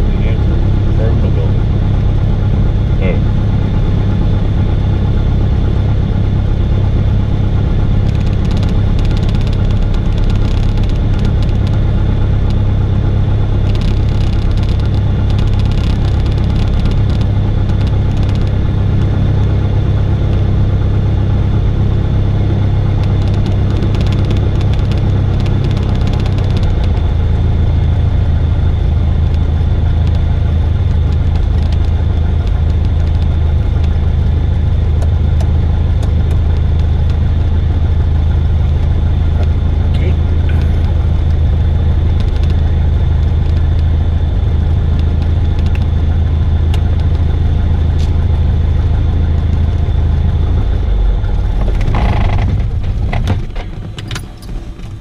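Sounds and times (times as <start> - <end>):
aircraft engine droning in cabin: 0.0 - 55.0.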